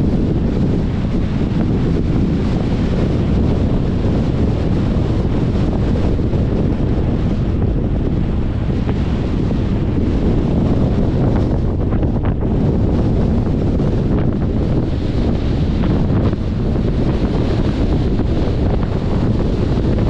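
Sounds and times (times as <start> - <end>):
car road noise: 0.0 - 20.0
wind rushing over microphone: 0.0 - 20.0.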